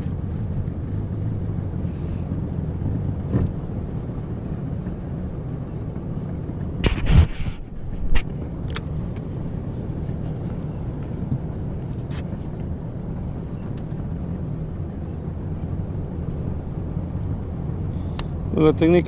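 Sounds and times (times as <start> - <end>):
boat engine idling: 0.0 - 6.9, 7.6 - 19.0.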